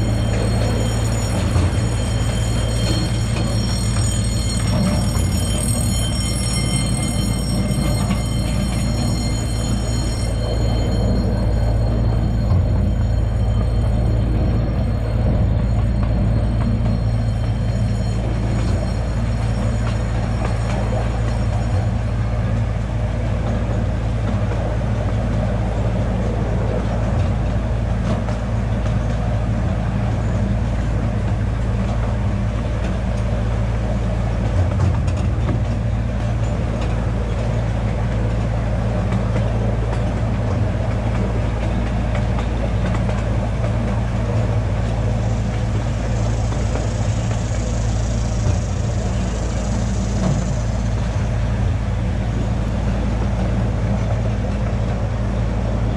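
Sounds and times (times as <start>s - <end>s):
miniature train running on track: 0.0s - 55.9s.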